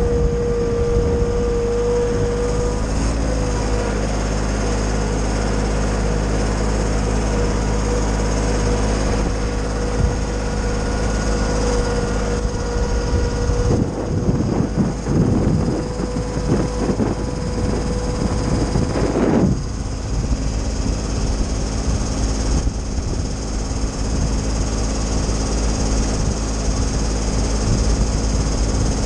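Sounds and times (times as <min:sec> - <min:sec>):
tractor engine running: 0:00.0 - 0:29.0
wood chipper running: 0:00.0 - 0:29.0.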